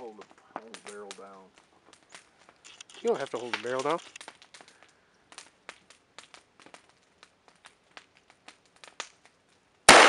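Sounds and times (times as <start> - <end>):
faint clicks and crackles: 0.0 - 9.8.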